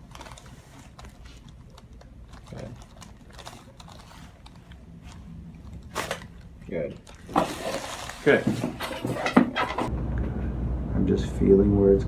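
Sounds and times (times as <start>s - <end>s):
rustling: 0.0s - 9.9s.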